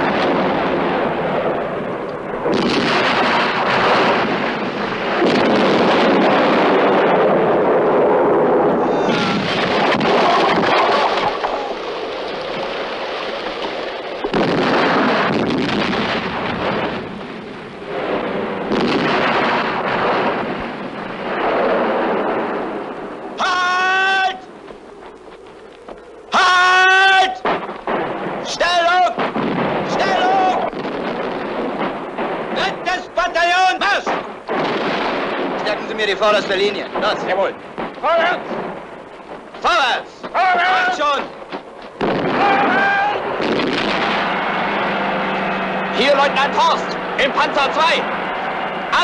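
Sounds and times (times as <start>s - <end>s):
gunfire: 0.0s - 22.9s, 27.4s - 32.8s, 33.9s - 39.6s, 41.1s - 49.0s
explosions: 0.0s - 49.0s
loud rolling blasts: 0.0s - 49.0s.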